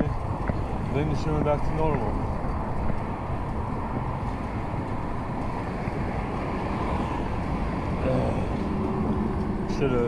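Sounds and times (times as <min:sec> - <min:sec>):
road traffic rumble: 0:00.0 - 0:10.0
wind buffeting microphone: 0:00.0 - 0:10.0.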